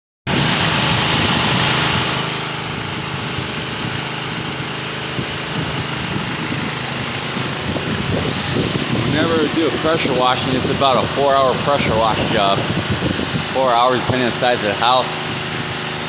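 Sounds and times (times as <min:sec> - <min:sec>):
pressure washer engine drone: 0:00.3 - 0:16.0
pressure washer spray hiss: 0:00.3 - 0:16.0.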